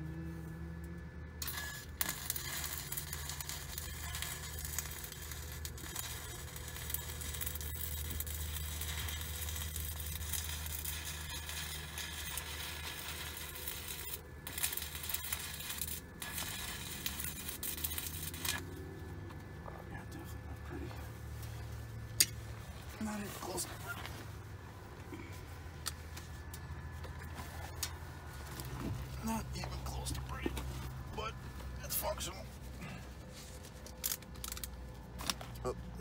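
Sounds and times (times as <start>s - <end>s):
welding arc crackling: 0.8s - 19.2s, 20.2s - 32.8s, 33.8s - 36.0s.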